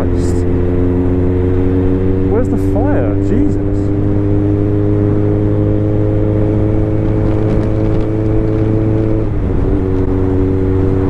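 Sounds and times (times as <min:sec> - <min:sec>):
constant low rumble: 0:00.0 - 0:11.0
motorcycle engine running: 0:00.0 - 0:11.0.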